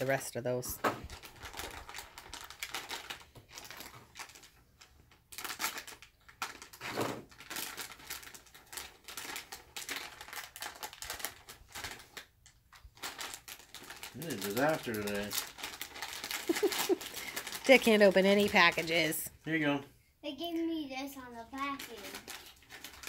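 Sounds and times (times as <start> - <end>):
plastic snack packet crinkling: 1.0 - 19.2, 20.5 - 23.0.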